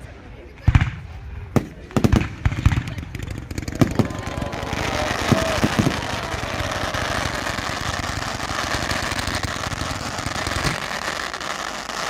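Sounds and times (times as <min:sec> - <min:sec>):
fireworks crackling: 0:00.8 - 0:12.0.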